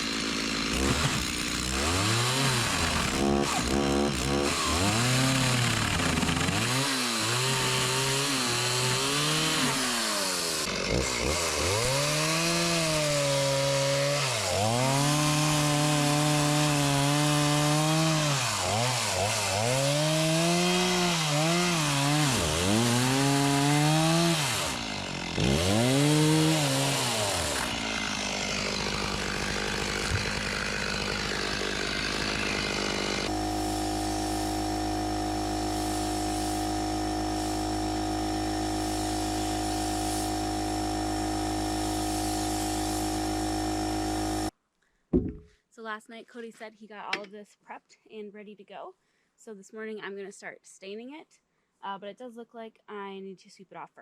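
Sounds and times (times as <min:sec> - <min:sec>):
chainsaw revving: 0:00.0 - 0:44.5.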